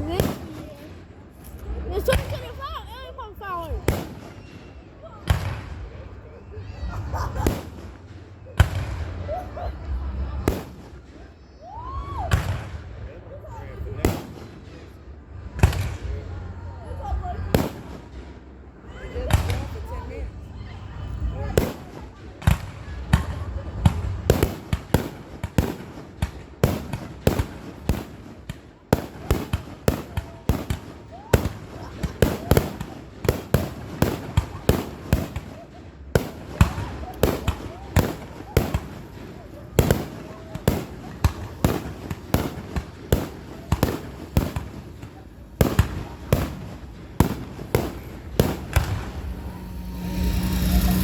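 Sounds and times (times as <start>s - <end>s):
fireworks bangs with echo: 0.0s - 1.1s, 3.6s - 6.0s, 6.7s - 11.4s, 13.8s - 16.3s, 17.1s - 18.5s, 21.4s - 51.0s.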